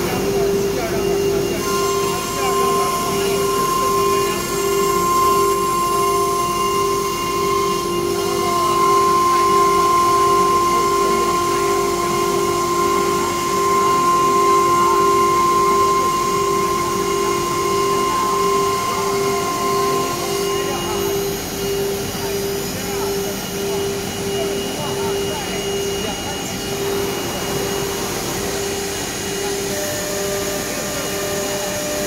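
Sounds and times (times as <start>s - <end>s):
cnc router whine: 0.0s - 32.0s.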